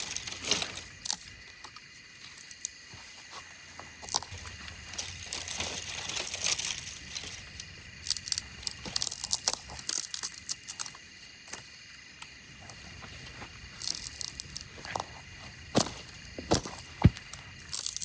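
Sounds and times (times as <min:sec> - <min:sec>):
dry leaves and twigs rustling: 0:00.0 - 0:18.0.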